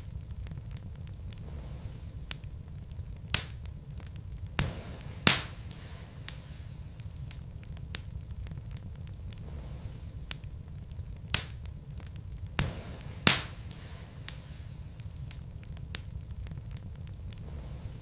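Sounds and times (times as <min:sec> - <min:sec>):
flames rumbling: 0:00.0 - 0:18.0
logs crackling and popping: 0:00.0 - 0:18.0.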